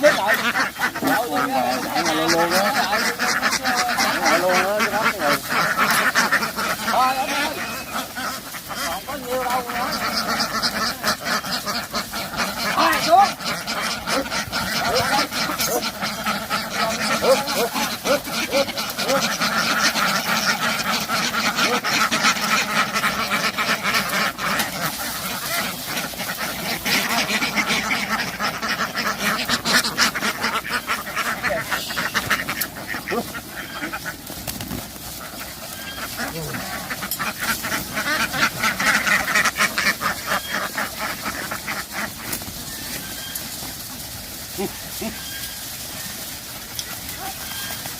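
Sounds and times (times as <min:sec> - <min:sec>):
flock of ducks quacking: 0:00.0 - 0:47.9.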